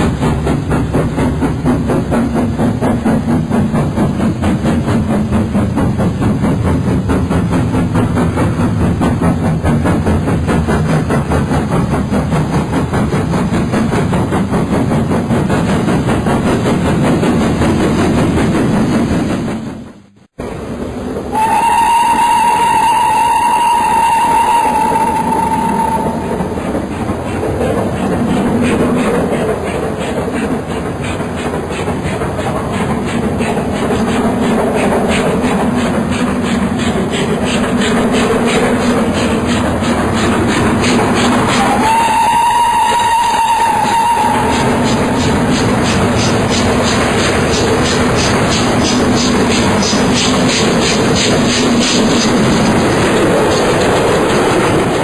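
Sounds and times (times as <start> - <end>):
steam locomotive exhaust beats: 0.0 - 55.0.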